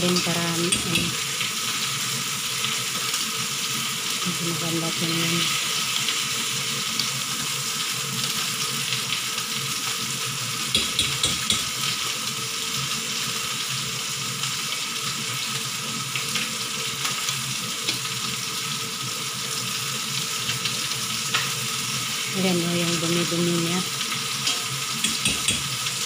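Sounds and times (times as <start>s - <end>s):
soup boiling and bubbling: 0.0s - 26.0s.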